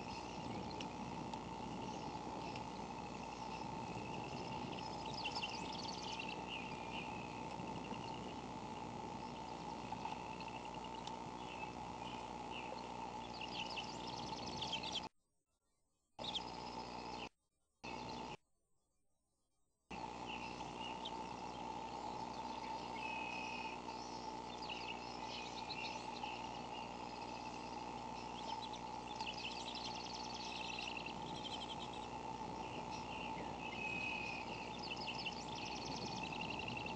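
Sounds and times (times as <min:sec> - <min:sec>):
birds chirping and trilling: 0:00.0 - 0:15.1, 0:16.2 - 0:18.4, 0:20.0 - 0:36.9
steady hum and hiss: 0:00.0 - 0:15.1, 0:16.2 - 0:18.4, 0:19.9 - 0:36.9.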